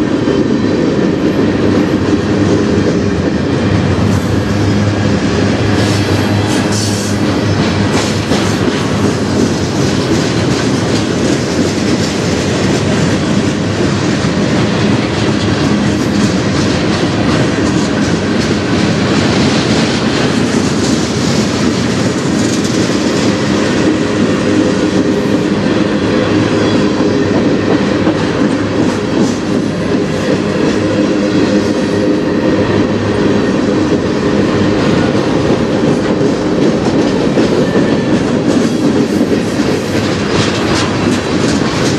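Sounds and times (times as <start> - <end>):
freight car wheels rumbling on rail: 0.0 - 41.9
wheels clacking over rail joints: 0.0 - 41.9.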